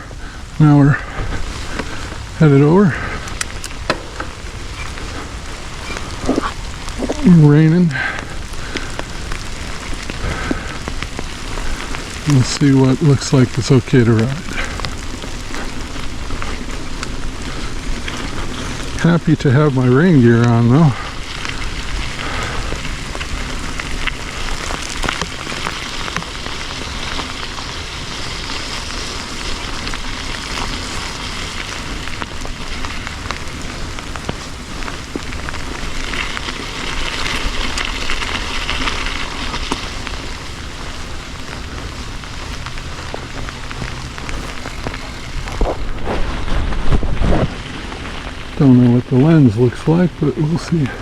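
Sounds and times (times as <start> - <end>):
rain hissing: 0.0 - 51.0
raindrops ticking close by: 0.0 - 51.0.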